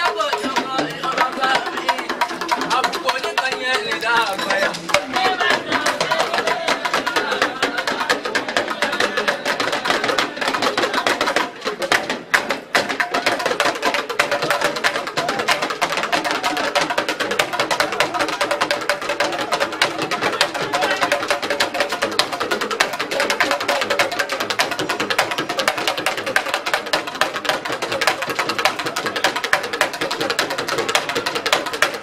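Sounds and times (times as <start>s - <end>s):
talking drums fast rhythm: 0.0s - 32.0s.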